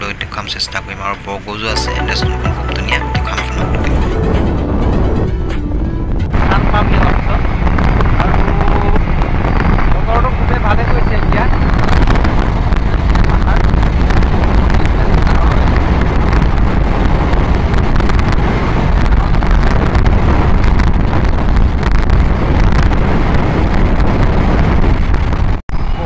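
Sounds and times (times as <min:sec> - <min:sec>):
road noise: 0:00.0 - 0:26.0
motorcycle running: 0:03.8 - 0:25.5
wind buffeting microphone: 0:04.0 - 0:26.0.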